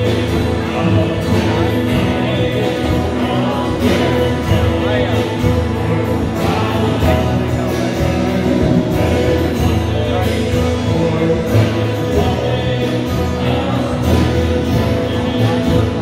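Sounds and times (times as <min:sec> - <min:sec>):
guitars: 0:00.0 - 0:16.0
keyboard: 0:00.0 - 0:16.0
singing: 0:00.0 - 0:16.0
worship band playing: 0:00.0 - 0:16.0.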